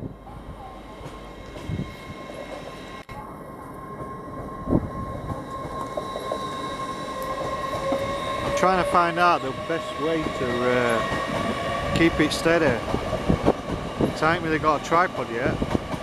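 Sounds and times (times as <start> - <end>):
train traction whine: 0.0 - 16.0.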